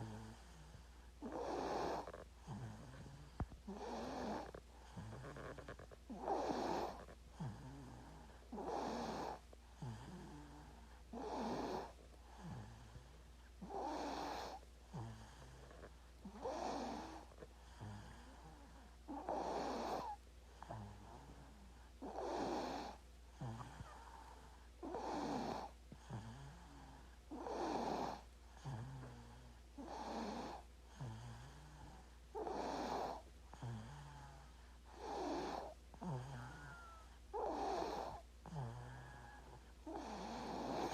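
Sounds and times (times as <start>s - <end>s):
baby snoring: 0.0s - 40.9s.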